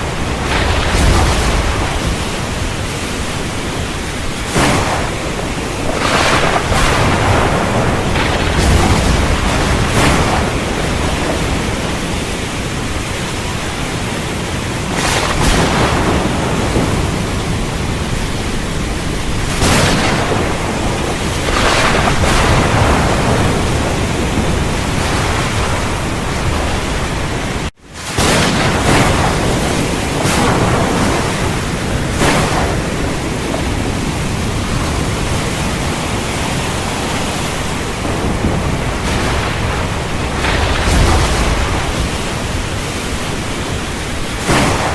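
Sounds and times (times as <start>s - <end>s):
heavy rain falling: 0.0s - 44.9s
thunder cracking: 0.0s - 44.9s.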